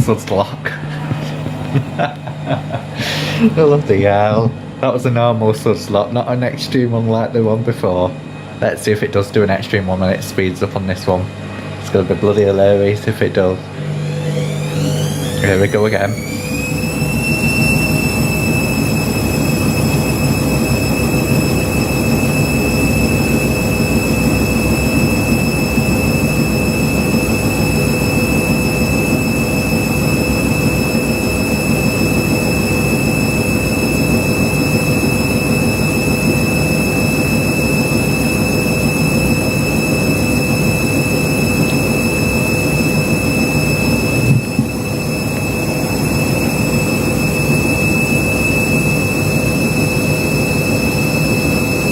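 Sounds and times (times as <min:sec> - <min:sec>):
washing machine spinning: 0:00.0 - 0:51.9.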